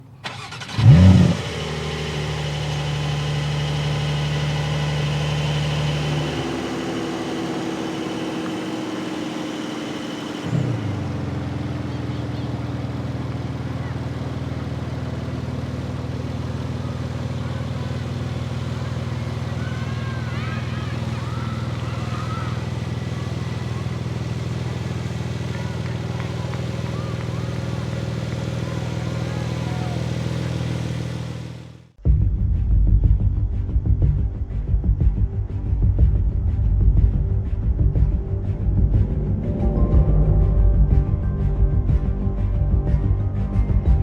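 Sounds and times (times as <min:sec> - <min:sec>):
car engine starting and idling: 0:00.0 - 0:44.0.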